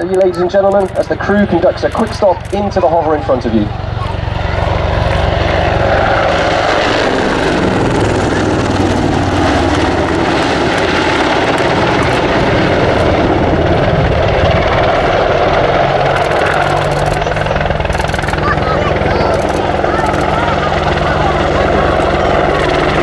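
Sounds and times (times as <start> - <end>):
helicopter flying low: 0.0 - 23.0
rotor blades beating: 0.0 - 23.0.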